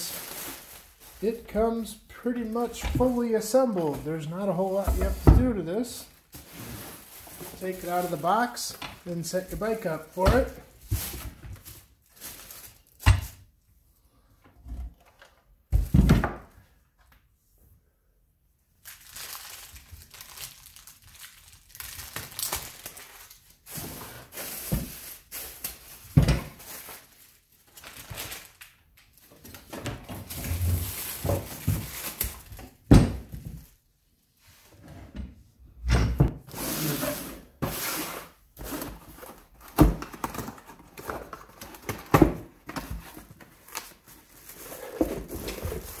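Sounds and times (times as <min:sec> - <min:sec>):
plastic and cardboard rustling: 0:00.0 - 0:13.4, 0:18.9 - 0:34.8, 0:36.4 - 0:46.0.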